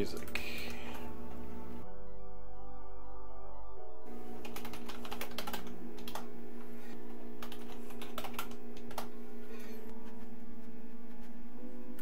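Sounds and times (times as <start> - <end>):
steady low hum: 0.0 - 2.0, 4.1 - 12.0.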